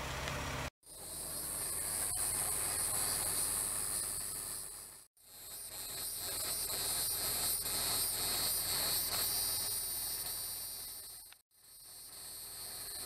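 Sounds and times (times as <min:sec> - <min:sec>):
insects buzzing and trilling: 0:00.8 - 0:13.0.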